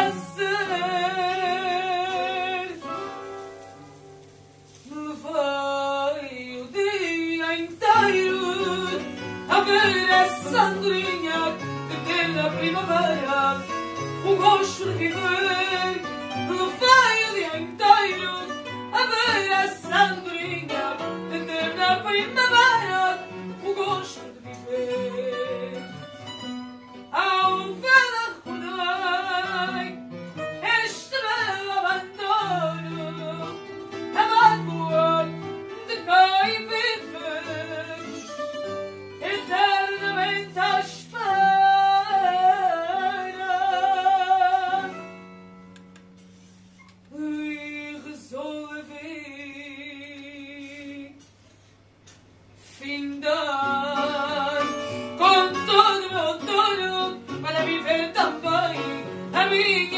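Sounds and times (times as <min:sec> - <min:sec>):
person singing with vibrato: 0:00.0 - 0:03.4, 0:04.8 - 0:45.2, 0:52.7 - 0:59.9
plucked guitar: 0:00.0 - 0:47.3, 0:53.0 - 0:59.9.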